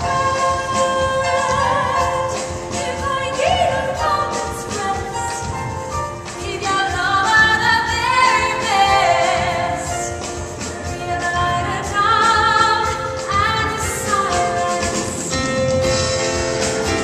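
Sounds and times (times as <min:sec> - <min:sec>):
woman singing with vibrato: 0:00.0 - 0:15.4.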